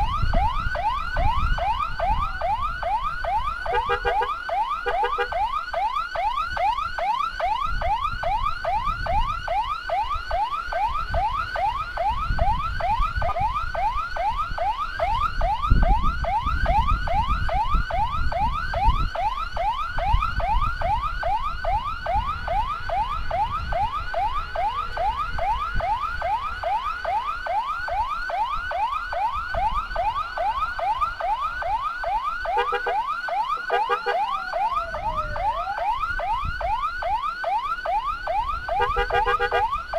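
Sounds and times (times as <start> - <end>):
electronic siren yelping: 0.0 - 39.9.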